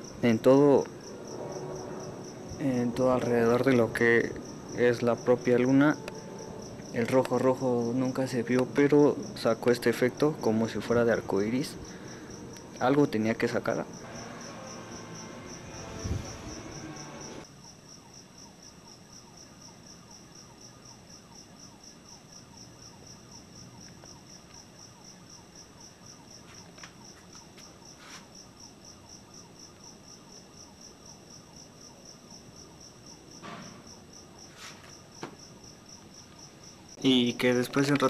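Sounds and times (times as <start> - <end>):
faint crickets chirping: 0.0 - 38.0.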